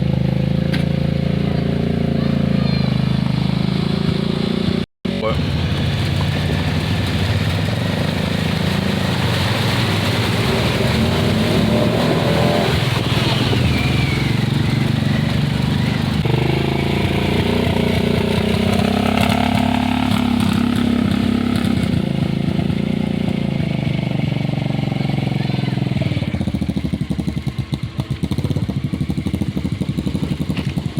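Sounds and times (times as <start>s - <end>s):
quad bike engine revving: 0.0s - 30.9s.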